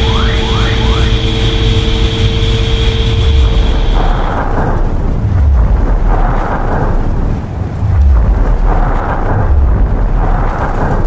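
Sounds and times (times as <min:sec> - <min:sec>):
tunnel boring machine rumbling: 0:00.0 - 0:11.0.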